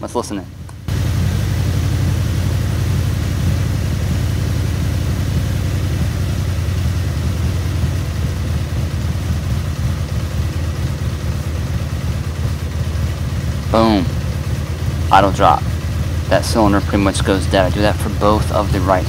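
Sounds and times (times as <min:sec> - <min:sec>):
motorcycle engine idling rough: 0:00.0 - 0:19.0.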